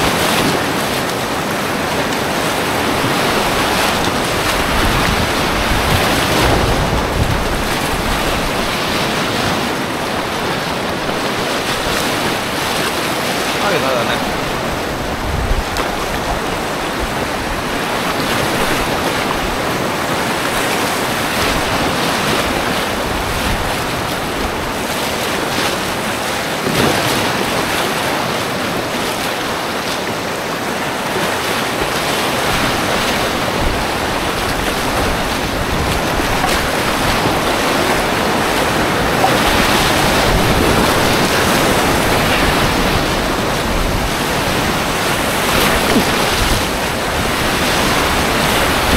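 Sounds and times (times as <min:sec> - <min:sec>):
river rapids rushing: 0:00.0 - 0:48.9.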